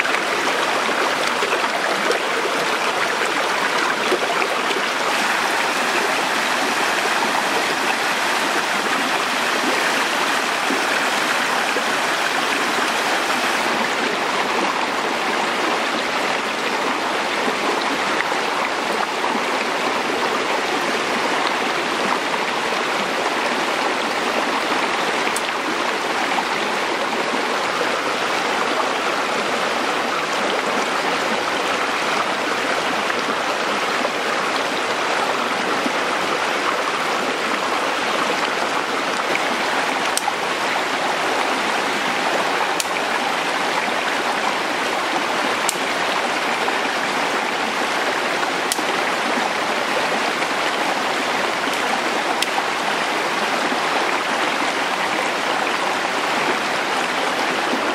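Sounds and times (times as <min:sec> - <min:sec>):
stream rushing over stones: 0:00.0 - 0:57.9.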